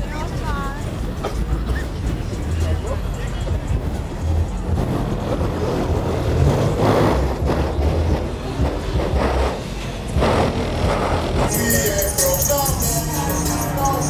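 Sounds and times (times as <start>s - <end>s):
traffic rumble on busy street: 0.0s - 14.0s.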